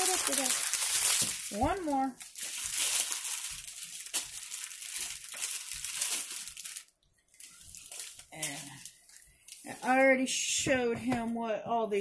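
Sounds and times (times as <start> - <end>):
plastic packaging crinkling: 0.0 - 10.1.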